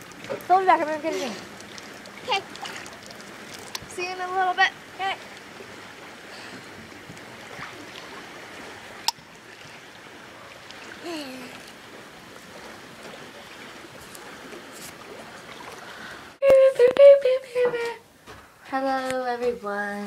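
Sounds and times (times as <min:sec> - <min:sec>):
water lapping and swishing: 0:00.0 - 0:16.4.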